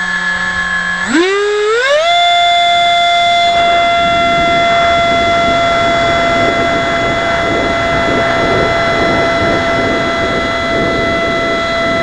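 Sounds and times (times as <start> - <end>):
electric ducted fan whining: 0.0 - 12.0
rushing noise of flying jet: 0.0 - 12.0.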